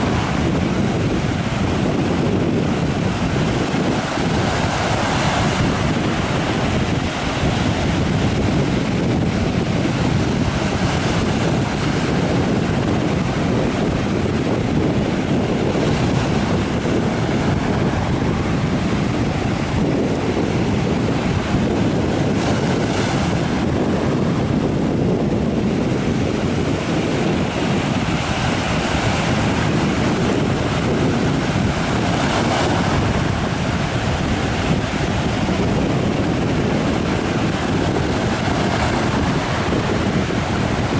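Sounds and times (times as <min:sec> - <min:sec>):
surf breaking on sandy shore: 0:00.0 - 0:40.9
wind buffeting microphone: 0:00.0 - 0:40.9.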